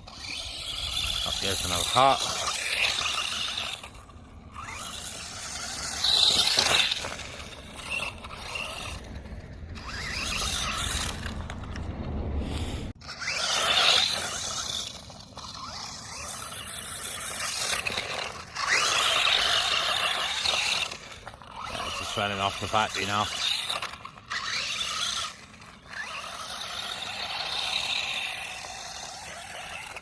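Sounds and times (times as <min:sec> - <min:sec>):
electric motor whining: 0:00.0 - 0:11.8, 0:12.4 - 0:30.0
tyres scraping over rough ground: 0:00.0 - 0:30.0.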